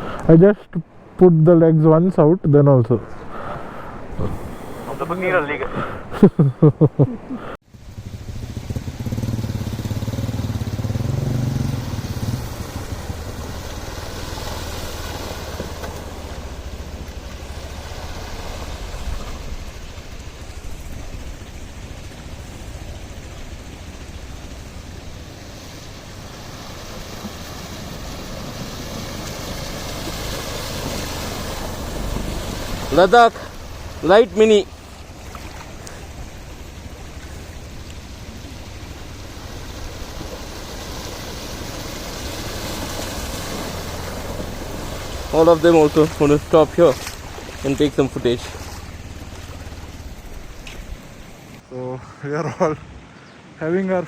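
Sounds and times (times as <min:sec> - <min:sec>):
even hiss: 0:01.9 - 0:54.0
motorcycle engine running: 0:07.7 - 0:51.6.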